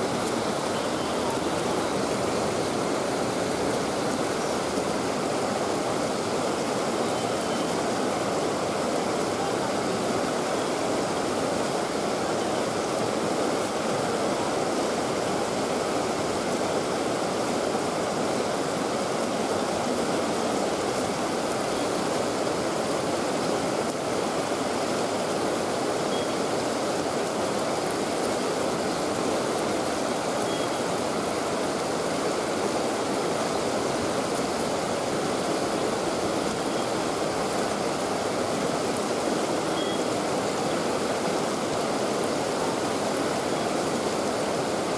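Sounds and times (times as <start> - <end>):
flowing river water: 0.0 - 44.9.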